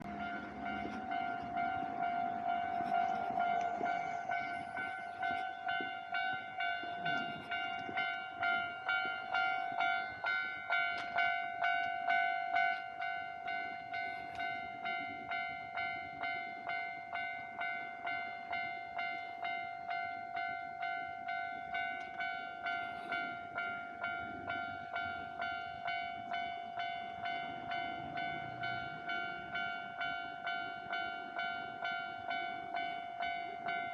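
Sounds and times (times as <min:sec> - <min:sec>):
train passing: 0:00.0 - 0:33.9.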